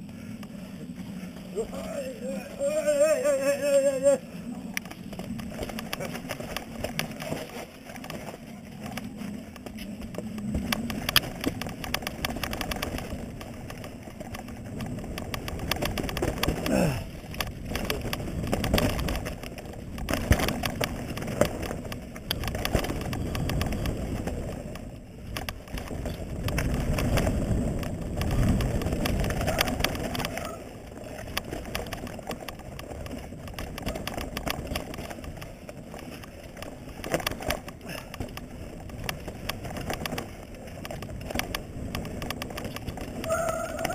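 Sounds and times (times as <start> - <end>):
bike rattling over bumps: 0.0 - 43.9
bike tyres crunching over stones: 0.0 - 43.9.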